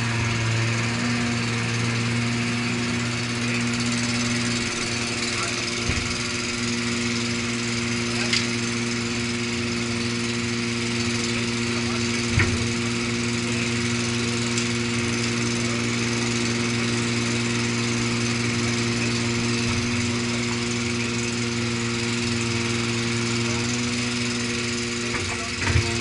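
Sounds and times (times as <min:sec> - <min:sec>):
machine engine humming: 0:00.0 - 0:26.0.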